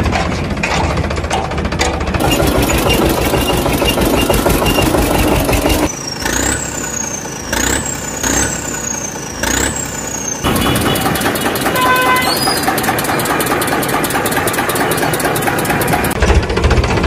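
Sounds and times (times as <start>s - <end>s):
tractor engine running: 0.0s - 17.0s
engine drone with rising whistle: 2.2s - 16.2s.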